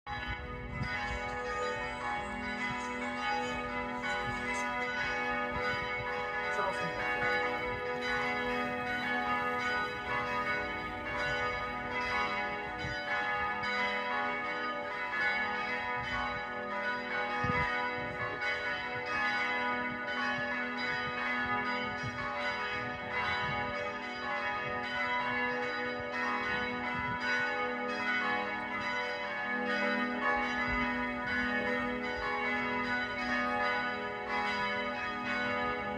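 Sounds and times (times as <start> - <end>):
church bells ringing: 0.1 - 35.9.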